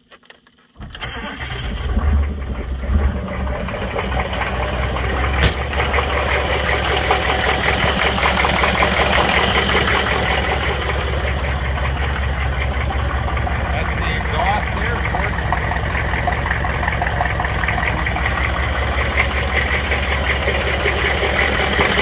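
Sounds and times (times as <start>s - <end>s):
diesel engine cranking and idling: 0.6s - 22.0s.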